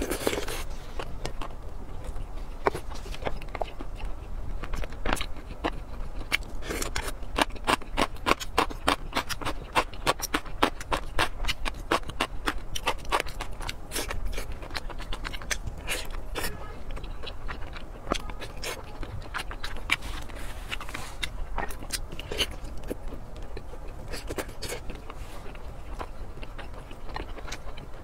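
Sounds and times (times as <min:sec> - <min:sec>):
wet chewing mouth clicks: 0:00.0 - 0:28.0.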